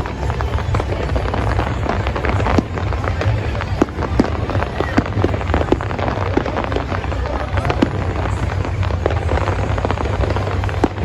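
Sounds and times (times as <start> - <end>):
fireworks crackling pops: 0.0 - 11.0
low rumble: 0.0 - 11.0.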